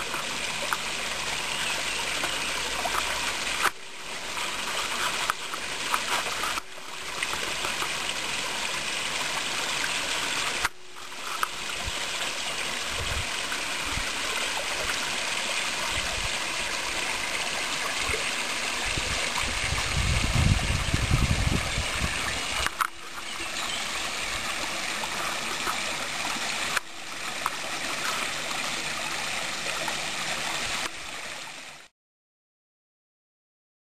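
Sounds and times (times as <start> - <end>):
waterfall splashing into pond: 0.0 - 31.9.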